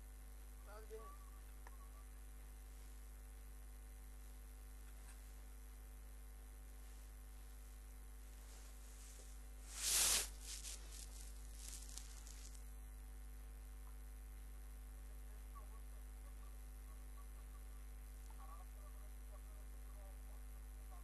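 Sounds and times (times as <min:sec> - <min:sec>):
low mains hum: 0:00.0 - 0:21.0.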